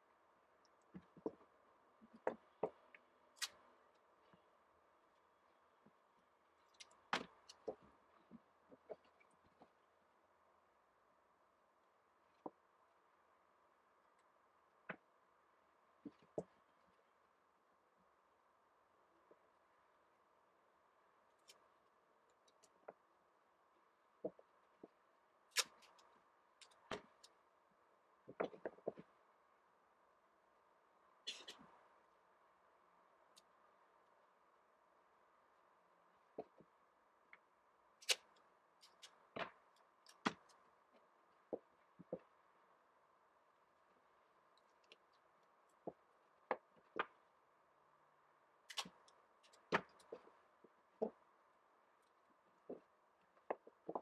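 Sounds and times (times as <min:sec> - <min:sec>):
faint steady hiss: 0:00.0 - 0:54.0.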